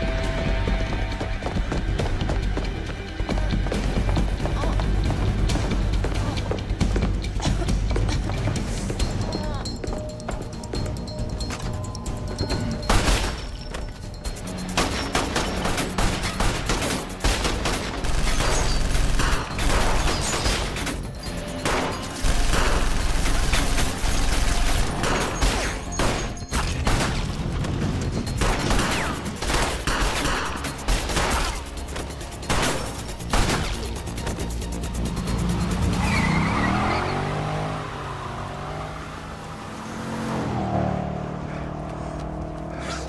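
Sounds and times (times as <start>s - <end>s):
film music score: 0.0s - 43.0s.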